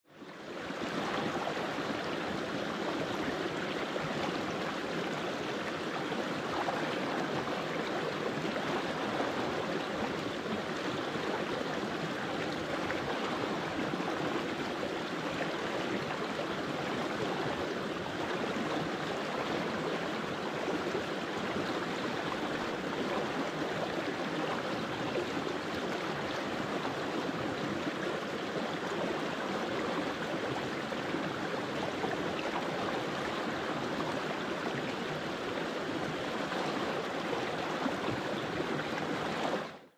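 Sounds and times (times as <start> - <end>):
stream babbling over rocks: 0.1 - 39.9.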